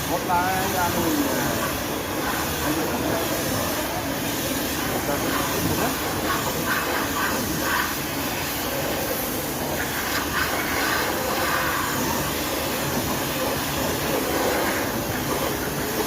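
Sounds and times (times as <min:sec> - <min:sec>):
steady hissing machine noise: 0:00.0 - 0:16.0.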